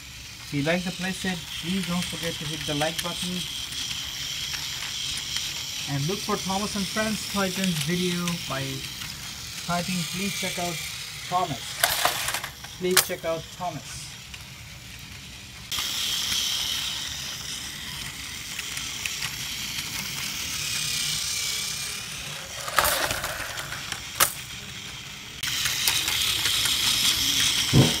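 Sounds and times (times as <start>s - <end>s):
toy train motor whirring: 0.0s - 28.0s.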